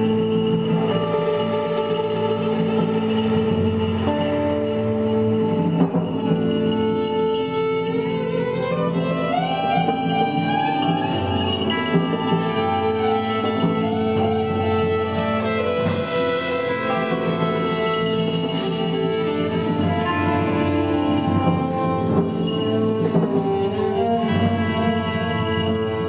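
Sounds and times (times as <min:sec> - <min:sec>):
bowed strings: 0:00.0 - 0:26.0
live ensemble music: 0:00.0 - 0:26.0.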